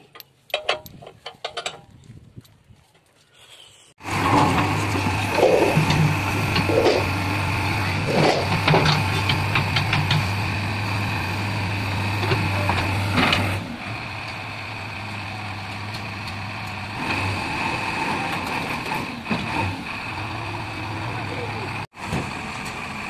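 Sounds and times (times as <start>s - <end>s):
diesel engine running: 4.0s - 23.0s.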